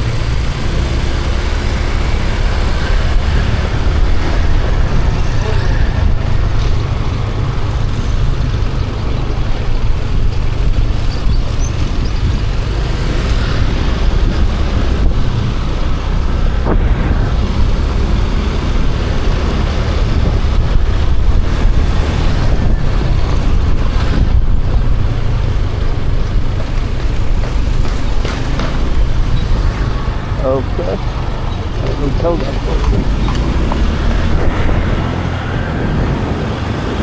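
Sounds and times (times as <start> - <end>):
vehicle road noise: 0.0 - 37.0.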